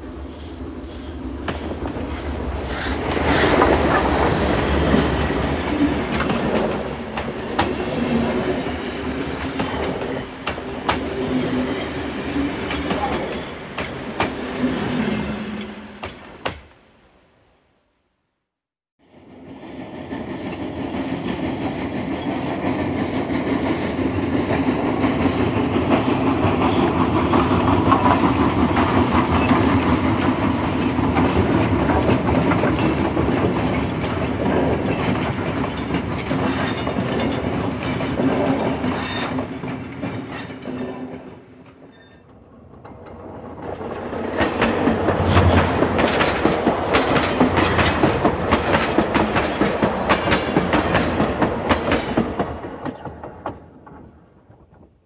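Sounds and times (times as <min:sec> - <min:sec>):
train wheels rattling on track: 0:00.0 - 0:16.6, 0:19.2 - 0:55.0.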